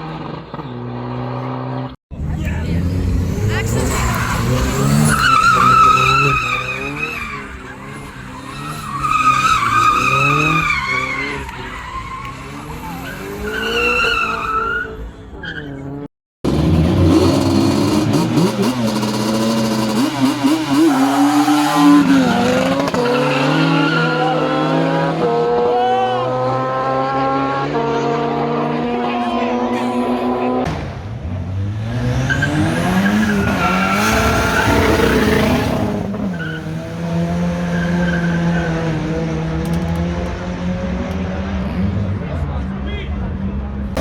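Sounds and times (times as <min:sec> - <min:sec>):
car engine revving: 0:00.0 - 0:14.5, 0:15.5 - 0:44.0.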